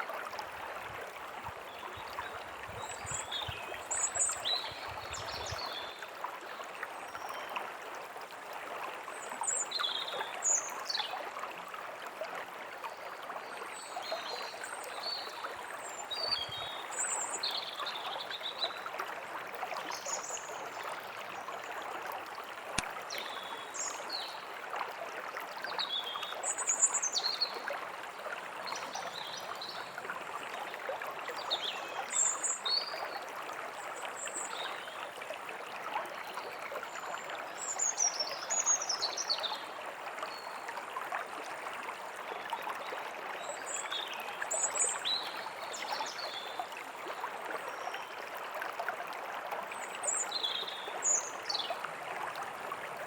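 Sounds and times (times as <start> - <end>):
stream babbling: 0.0 - 53.0.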